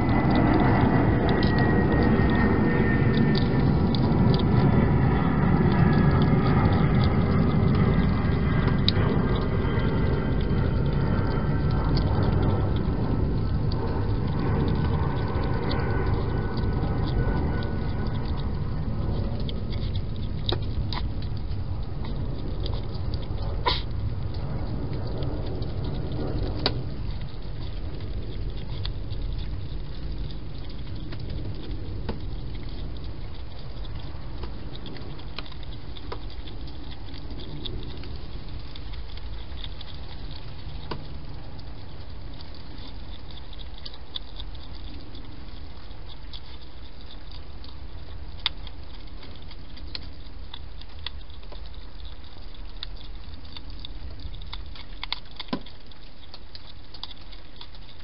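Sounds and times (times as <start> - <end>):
hedgehog chewing clicks: 0.0 - 58.0
low background noise: 0.0 - 58.0.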